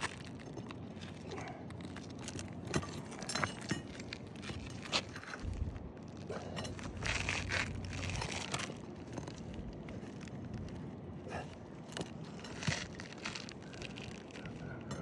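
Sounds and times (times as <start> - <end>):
shingles scraping and crinkling: 0.0 - 15.0.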